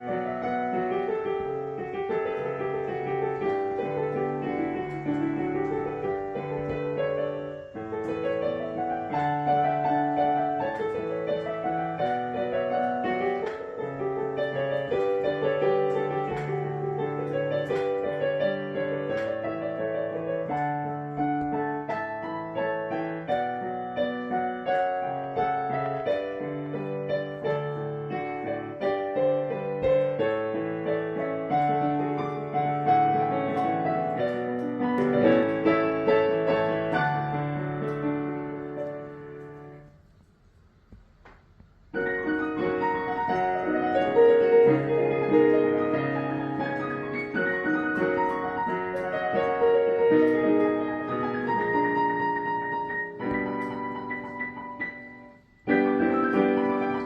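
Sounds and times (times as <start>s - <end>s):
slow gentle piano piece: 0.0s - 57.0s.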